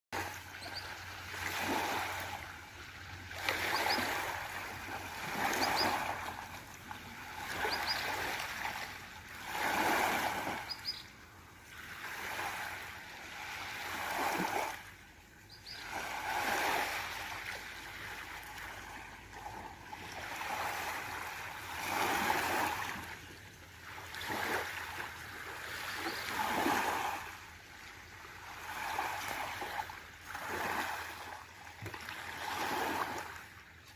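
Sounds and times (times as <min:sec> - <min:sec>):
small waves lapping: 0:00.2 - 0:33.9.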